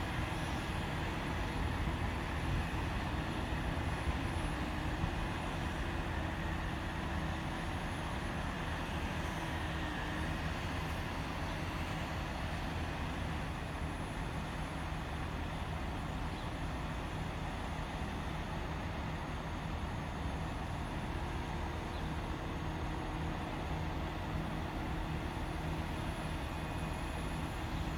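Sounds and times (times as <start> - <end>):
crane engine running: 0.0 - 27.9.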